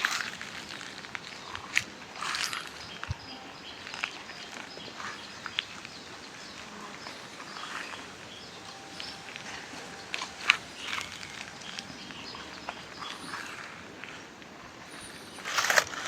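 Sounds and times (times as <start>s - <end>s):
footsteps on dry leaves: 0.0s - 16.0s
high chirps: 0.6s - 14.2s.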